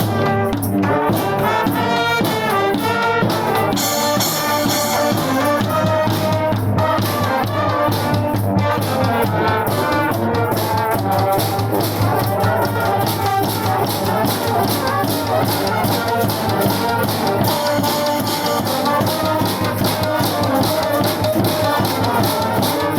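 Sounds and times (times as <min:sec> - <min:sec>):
brass band playing: 0:00.0 - 0:22.9.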